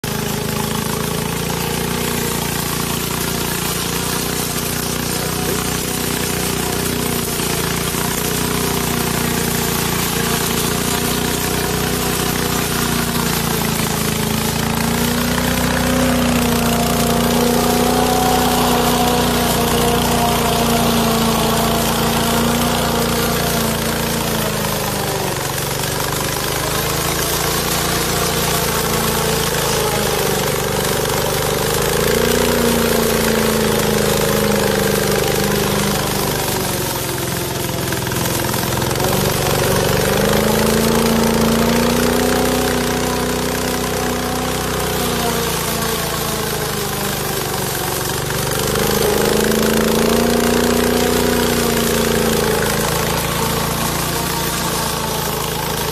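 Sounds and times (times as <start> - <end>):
mower engine cutting weeds: 0.0 - 55.9.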